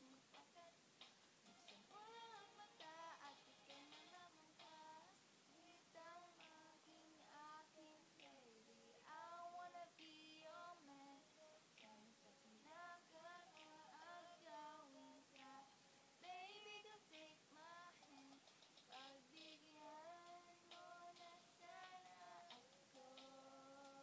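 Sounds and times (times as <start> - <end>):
girl singing: 0.0 - 0.8, 1.7 - 24.0.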